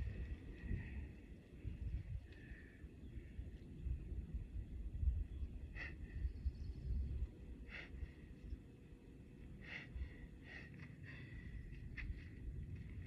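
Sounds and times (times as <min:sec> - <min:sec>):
wind buffeting microphone: 0:00.0 - 0:08.8, 0:09.6 - 0:13.0.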